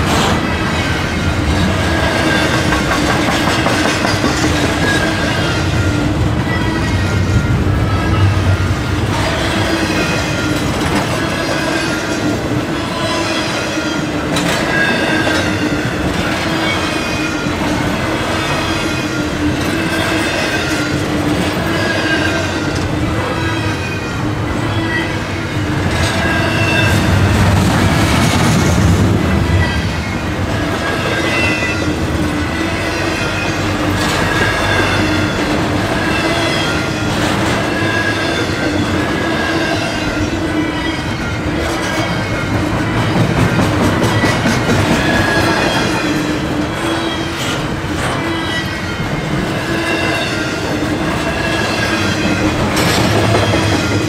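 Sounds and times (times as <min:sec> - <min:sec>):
rumble of train wheels on track: 0:00.0 - 0:54.0.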